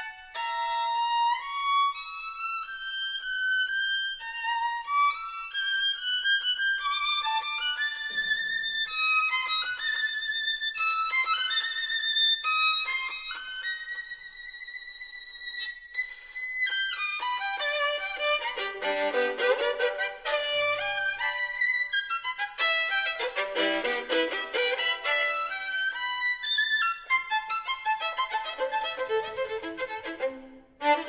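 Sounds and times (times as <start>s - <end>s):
solo violin melody: 0.0s - 31.0s.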